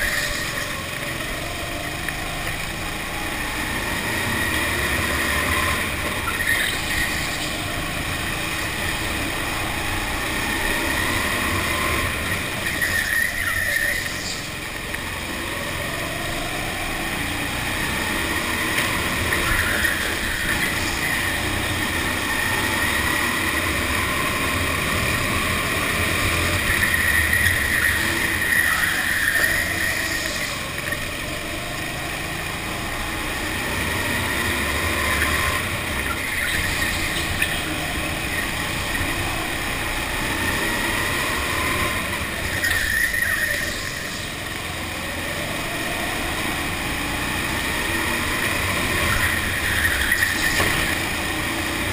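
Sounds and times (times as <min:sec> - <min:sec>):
go-kart engine accelerating: 0:00.0 - 0:51.9.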